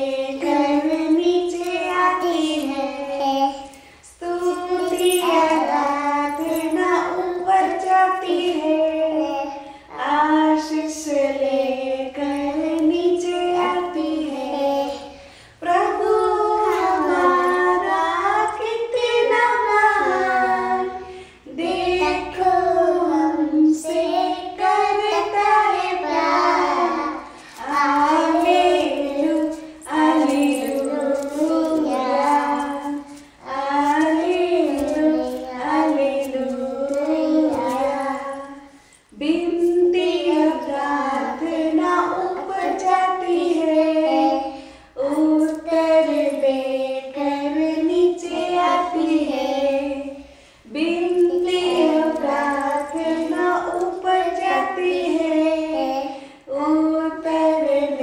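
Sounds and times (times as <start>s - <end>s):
child singing: 0.0s - 58.0s.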